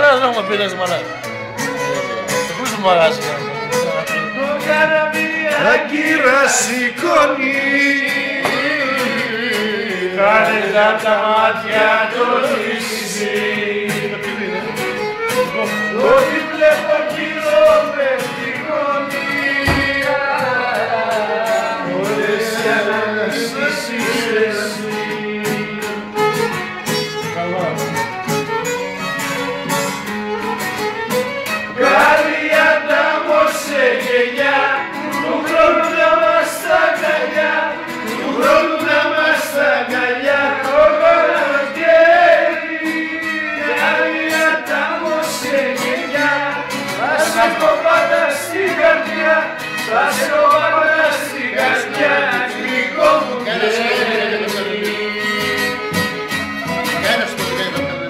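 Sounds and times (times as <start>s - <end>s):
strummed lute: 0.0s - 58.0s
violin folk melody: 0.0s - 58.0s.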